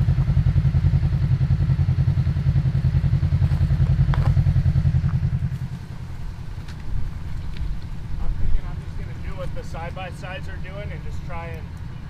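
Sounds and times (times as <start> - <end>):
engine low pulsing rumble: 0.0 - 12.0.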